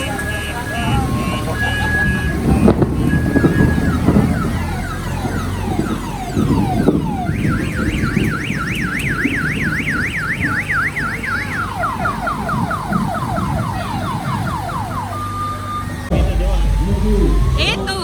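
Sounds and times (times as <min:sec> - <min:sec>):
electronic siren: 0:00.0 - 0:18.0
motor and street rumble: 0:00.0 - 0:18.0.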